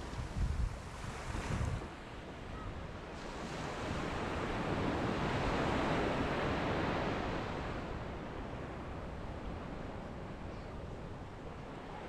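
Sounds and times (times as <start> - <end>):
small waves breaking on beach: 0.0 - 10.4.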